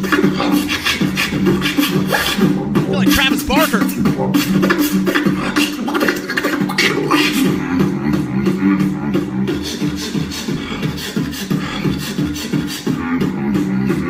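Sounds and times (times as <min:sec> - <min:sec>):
percussive beatbox snare hits: 0:00.0 - 0:14.0.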